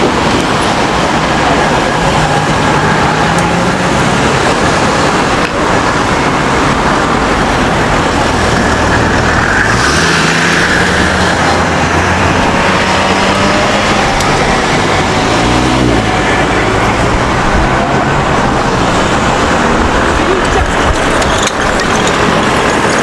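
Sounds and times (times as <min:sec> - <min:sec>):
road noise: 0:00.0 - 0:23.0
vehicles driving past: 0:00.0 - 0:23.0.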